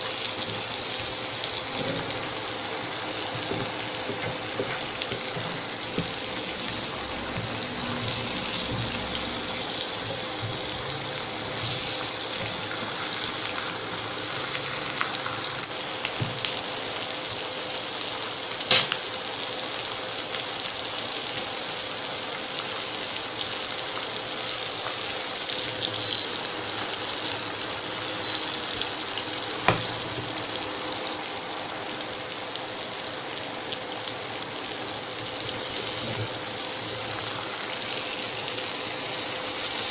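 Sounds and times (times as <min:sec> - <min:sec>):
meat sizzling in frying pan: 0:00.0 - 0:39.9.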